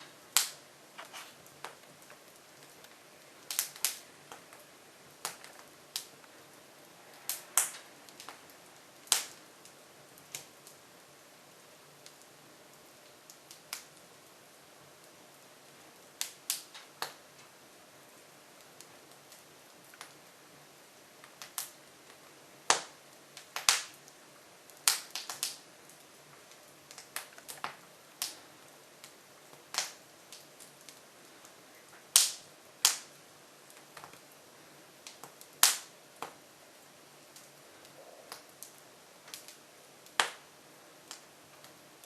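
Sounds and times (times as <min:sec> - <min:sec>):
faint fire hiss: 0:00.0 - 0:42.0
wood fire crackling and popping: 0:00.0 - 0:42.0.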